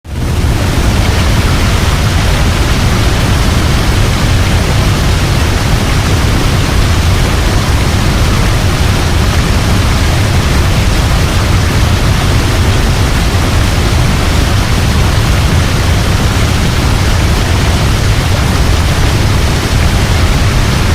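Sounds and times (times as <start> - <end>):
waterfall roaring: 0.1 - 20.9.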